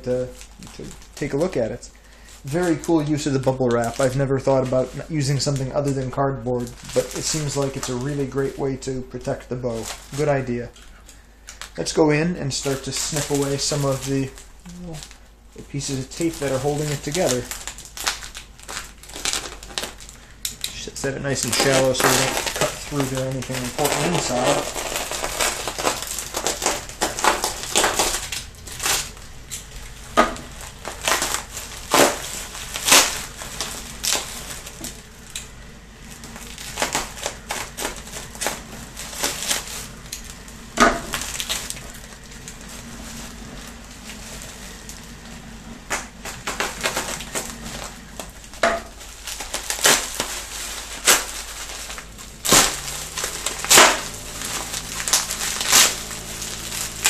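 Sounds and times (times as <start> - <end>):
bubble wrap crackling: 0.0 - 57.0.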